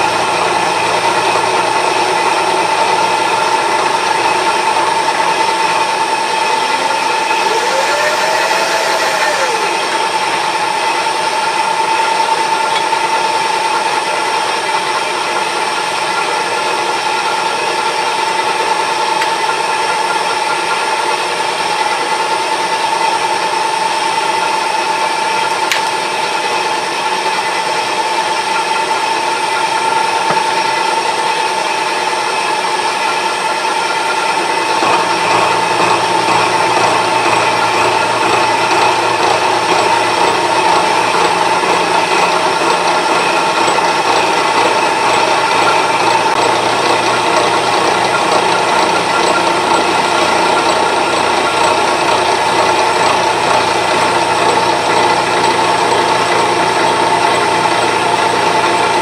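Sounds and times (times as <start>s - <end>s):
milling machine whining: 0.0s - 16.3s, 25.3s - 59.0s.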